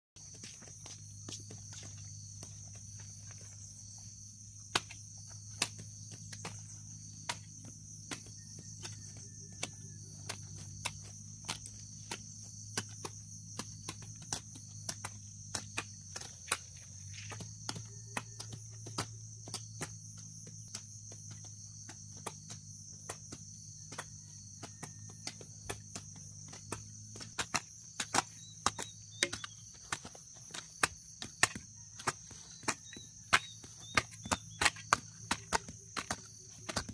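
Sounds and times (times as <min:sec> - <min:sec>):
hoes chopping into soil: 0:00.2 - 0:36.9.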